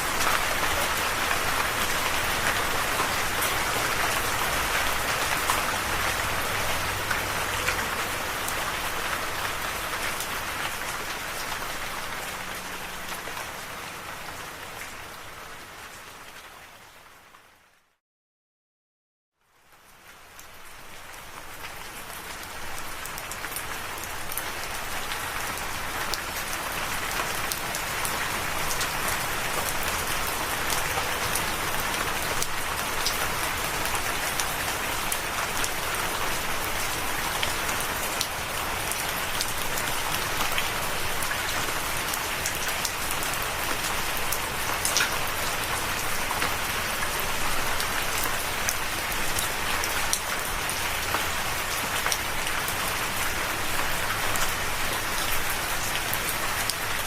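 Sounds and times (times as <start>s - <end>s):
steady rain: 0.0s - 18.0s, 19.4s - 57.0s.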